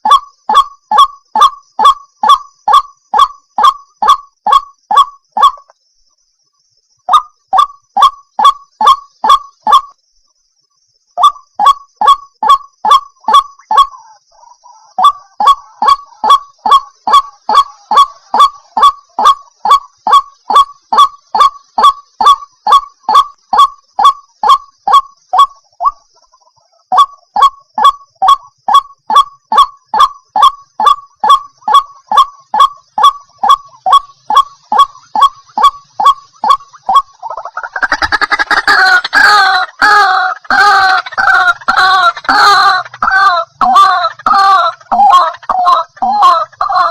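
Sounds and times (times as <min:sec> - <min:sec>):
bird calling kwak: 0:00.0 - 0:05.8, 0:06.5 - 0:10.0, 0:11.1 - 0:46.9.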